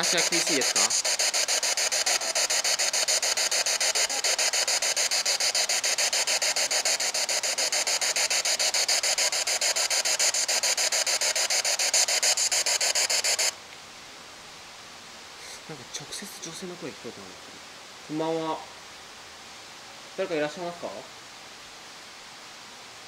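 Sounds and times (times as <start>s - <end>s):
chopped radio static hiss: 0.0s - 23.0s.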